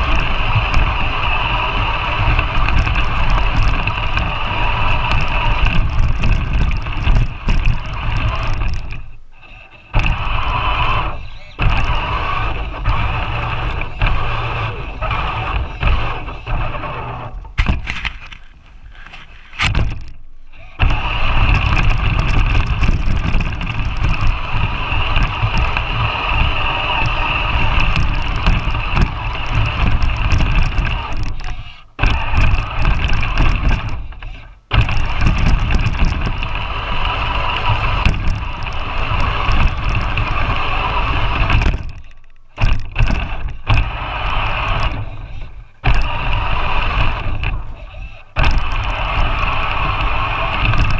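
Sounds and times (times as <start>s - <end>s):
chassis rumbling over snow: 0.0s - 50.9s
toy truck electric motor whining: 0.0s - 50.9s.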